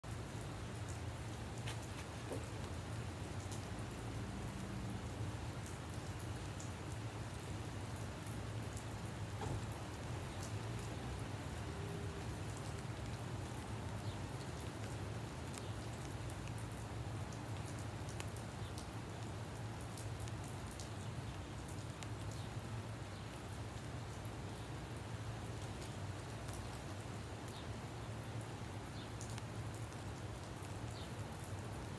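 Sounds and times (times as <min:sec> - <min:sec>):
rain pattering: 0:00.0 - 0:31.9.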